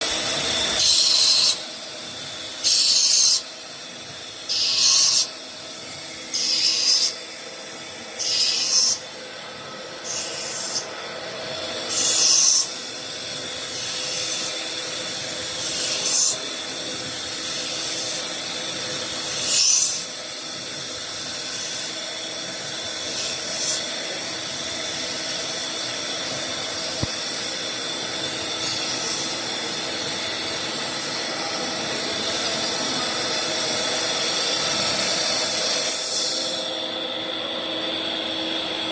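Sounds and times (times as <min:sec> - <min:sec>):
lathe hissing cut: 0:00.0 - 0:38.9
machine hum: 0:00.0 - 0:38.9.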